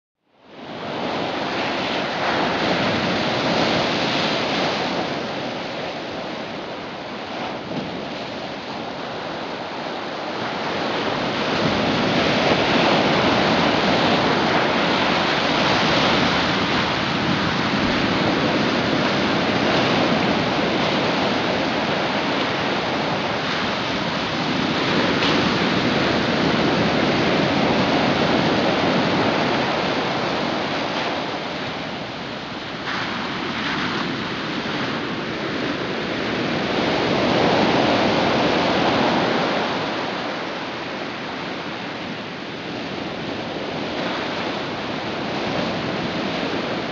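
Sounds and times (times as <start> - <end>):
ocean waves breaking: 0.5 - 46.9.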